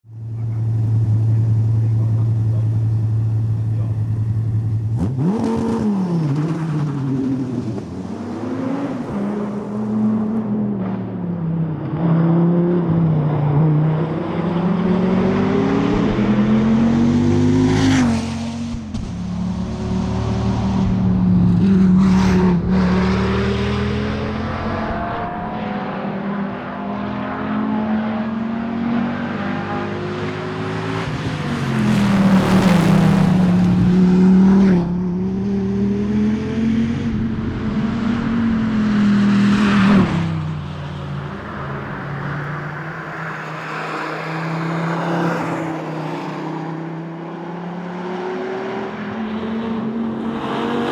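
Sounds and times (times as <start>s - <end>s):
sports car engine accelerating: 0.1s - 50.9s.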